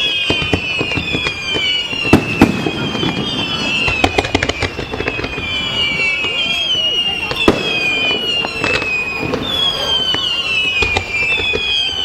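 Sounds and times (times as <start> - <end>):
fireworks bangs and crackles: 0.0 - 12.0
fireworks whistling: 0.0 - 12.0.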